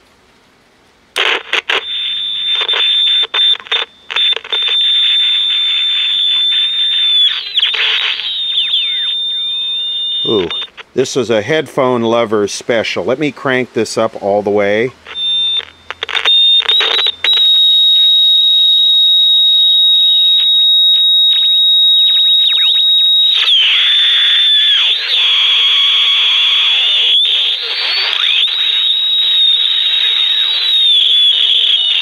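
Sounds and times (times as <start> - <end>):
radio squealing whistle: 1.2 - 10.8, 15.1 - 32.0.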